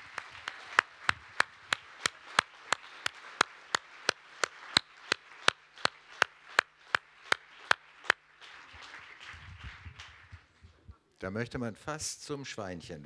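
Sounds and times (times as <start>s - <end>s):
audience applause: 0.0s - 10.7s
person clapping close by: 0.0s - 11.0s.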